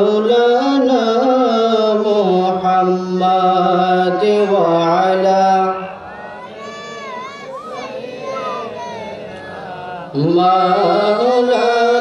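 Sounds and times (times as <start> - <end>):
man chanting melodically: 0.0 - 6.0, 7.8 - 12.0.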